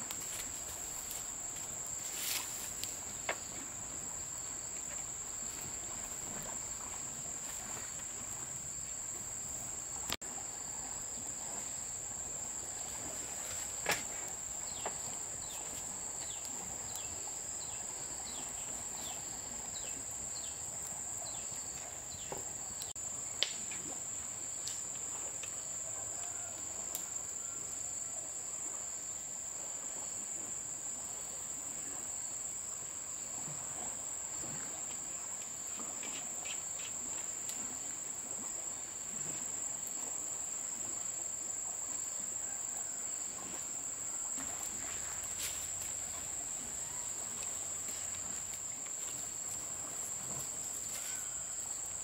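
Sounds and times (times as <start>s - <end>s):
insects trilling: 0.0s - 52.0s.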